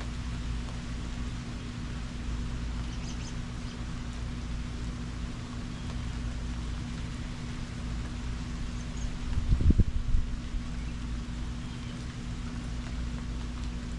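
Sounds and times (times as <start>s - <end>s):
rain hissing: 0.0s - 13.9s
steady low hum: 0.0s - 13.9s.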